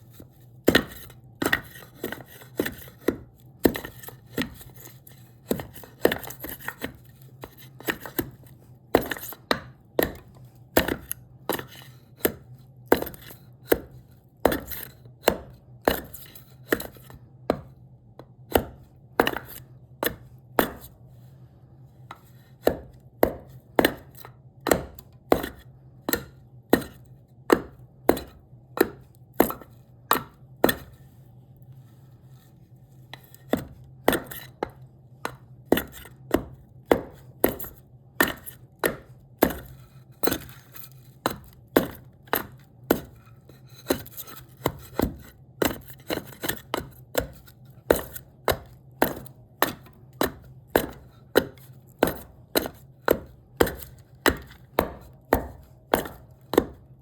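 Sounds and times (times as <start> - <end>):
hand tool striking wood: 5.5 - 21.0, 22.6 - 30.9, 33.2 - 56.9.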